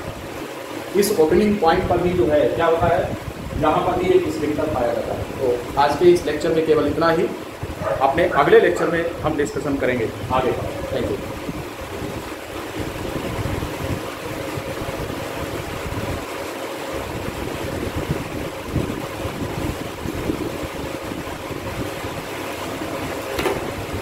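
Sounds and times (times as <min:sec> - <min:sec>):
steady rumbling noise: 0:00.0 - 0:24.0.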